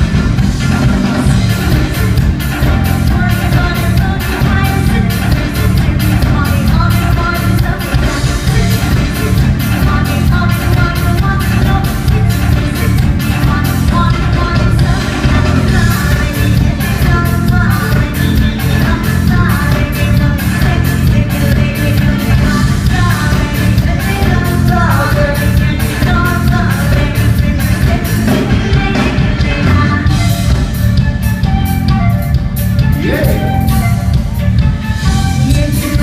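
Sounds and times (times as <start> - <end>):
live rock band playing: 0.0 - 36.0
person singing: 0.6 - 30.4, 32.9 - 33.9, 35.0 - 36.0.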